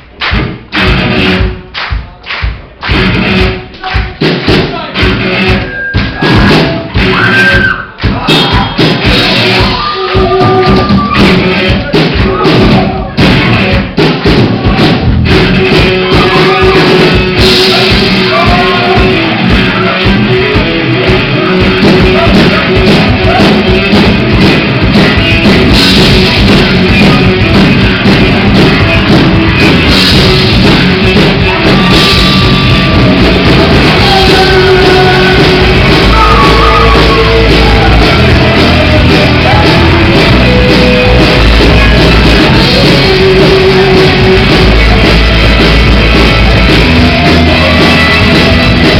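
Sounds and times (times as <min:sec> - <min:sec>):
rock band playing: 0:00.0 - 0:48.9
shouted singing: 0:05.4 - 0:13.8, 0:14.7 - 0:24.2, 0:25.7 - 0:48.9.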